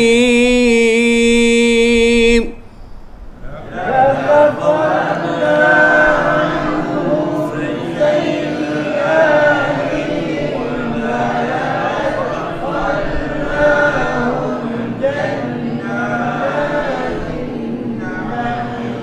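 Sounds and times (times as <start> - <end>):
men chanting in unison: 3.4 - 19.0.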